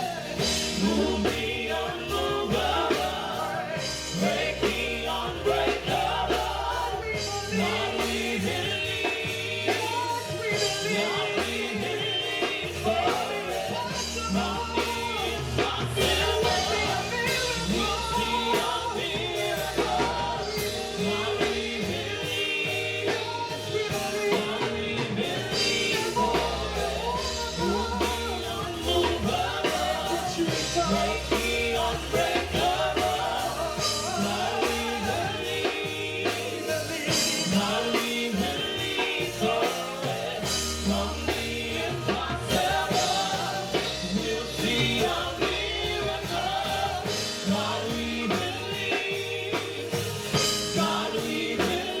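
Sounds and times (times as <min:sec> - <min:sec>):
full band playing steady beat: 0:00.0 - 0:52.0
praise team singing: 0:00.0 - 0:52.0.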